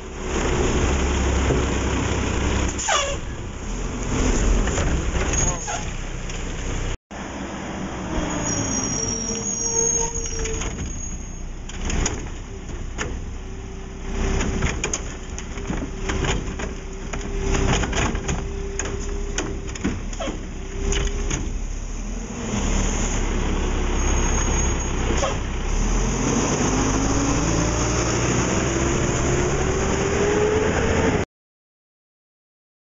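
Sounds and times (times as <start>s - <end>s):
diesel engine running: 0.0s - 31.0s
garbage truck whine: 0.0s - 31.2s.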